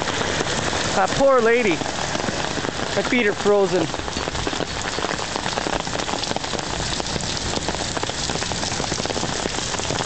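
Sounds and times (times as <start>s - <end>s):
heavy rain on hard surfaces: 0.0s - 10.0s.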